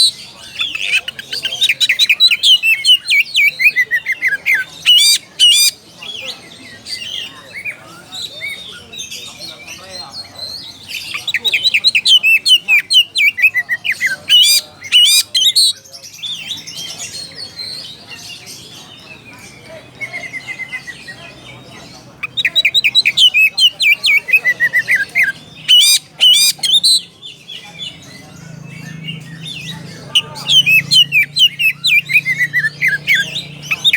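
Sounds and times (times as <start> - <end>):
bird twittering: 0.0 - 33.9.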